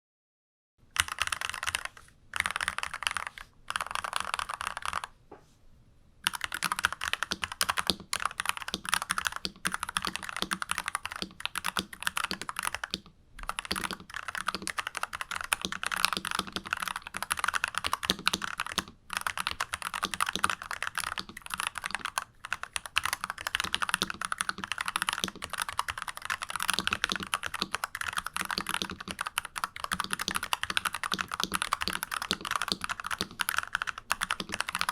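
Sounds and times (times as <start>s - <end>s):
mechanical keyboard typing: 1.0s - 5.1s, 6.2s - 34.9s.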